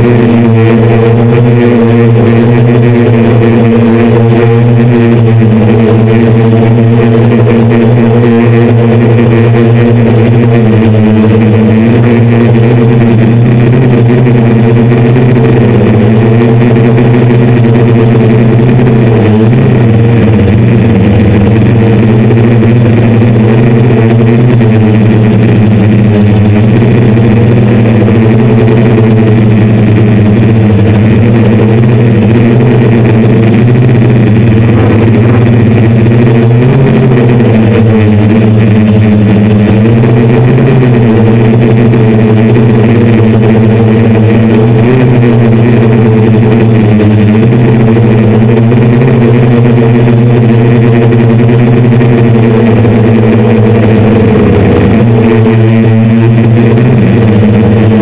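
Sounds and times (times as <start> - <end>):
hexacopter drone hum: 0.0 - 58.0.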